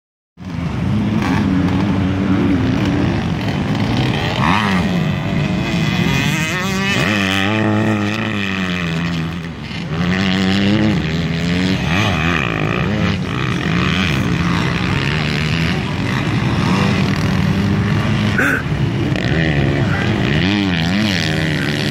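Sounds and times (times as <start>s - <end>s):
motocross bikes revving: 0.4s - 21.9s.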